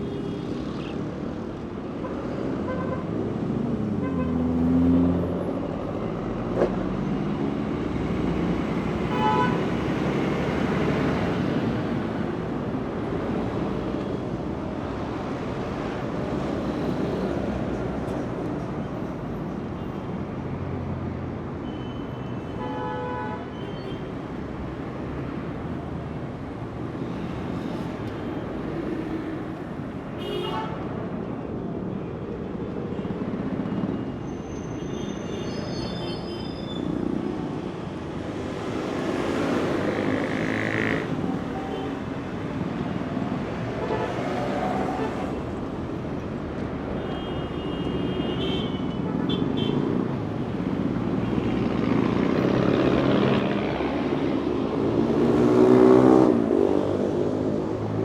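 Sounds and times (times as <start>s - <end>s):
heavy street traffic rumble: 0.0s - 58.0s.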